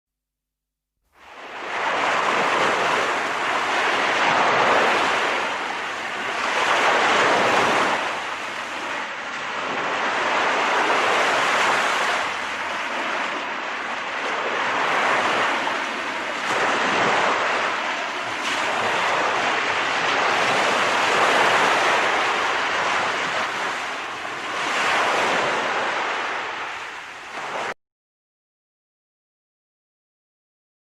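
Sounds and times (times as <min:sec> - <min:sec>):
ocean surf breaking: 0:01.2 - 0:27.8.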